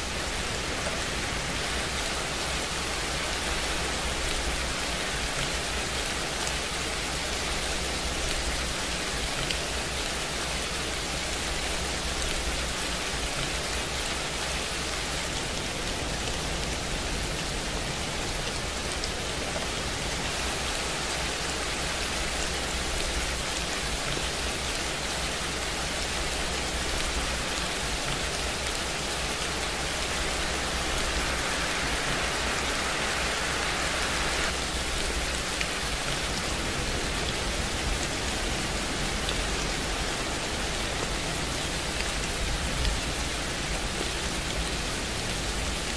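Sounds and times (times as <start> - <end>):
steady rain hiss: 0.0 - 45.9.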